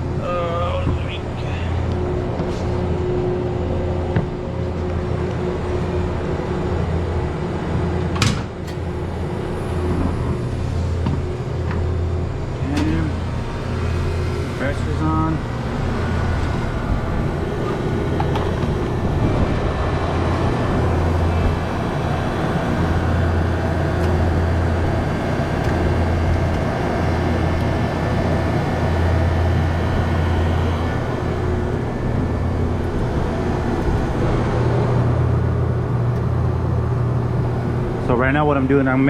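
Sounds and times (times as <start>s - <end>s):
freezer fan motors humming: 0.0s - 39.0s.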